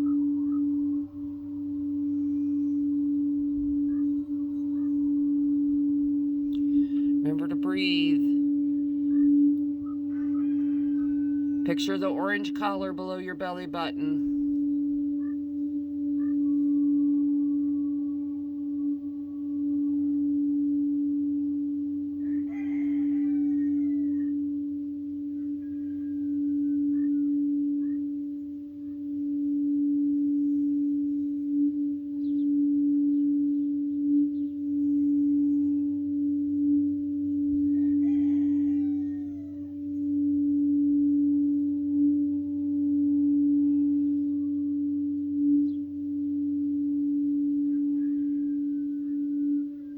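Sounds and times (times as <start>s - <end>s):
singing bowl humming tone: 0.0s - 49.9s.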